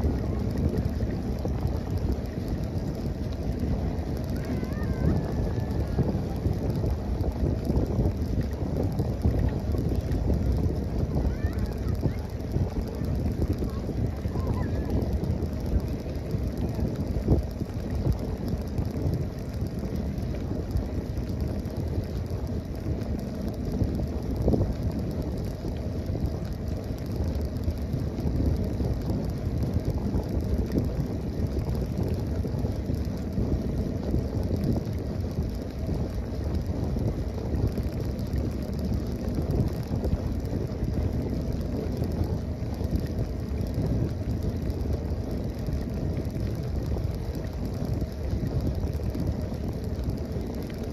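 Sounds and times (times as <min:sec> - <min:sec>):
bicycle tyres rolling over bricks: 0:00.0 - 0:50.9
wind buffeting microphone: 0:00.0 - 0:50.9.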